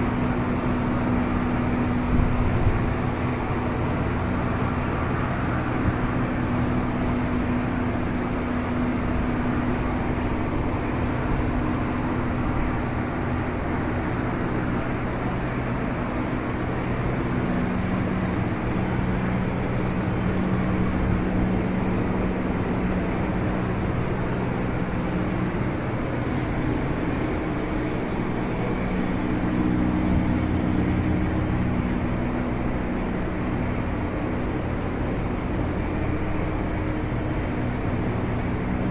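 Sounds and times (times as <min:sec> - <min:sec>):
machinery humming and droning: 0:00.0 - 0:38.9.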